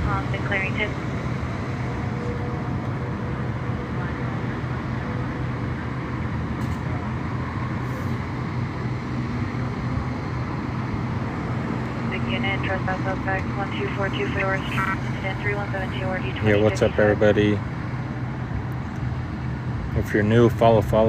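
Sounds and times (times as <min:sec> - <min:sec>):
constant low hum: 0:00.0 - 0:21.0
street traffic rumble: 0:00.0 - 0:21.0.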